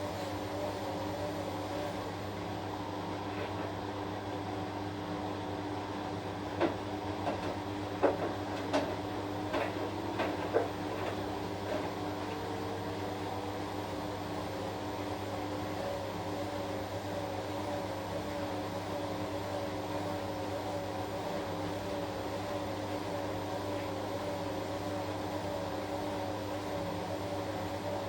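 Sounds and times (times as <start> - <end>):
washing machine humming: 0.0 - 28.0.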